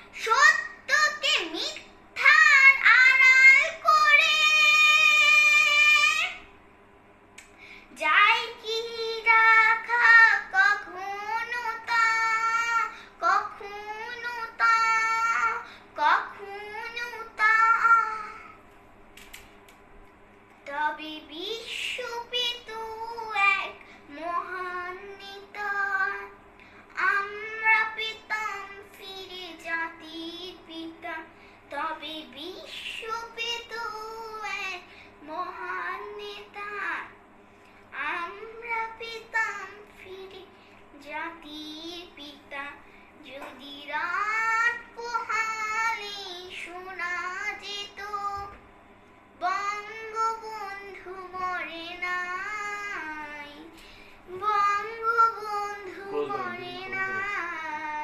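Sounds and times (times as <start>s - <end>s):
girl singing unaccompanied: 0.0s - 6.5s, 7.9s - 18.6s, 20.6s - 37.2s, 37.9s - 48.6s, 49.4s - 58.0s.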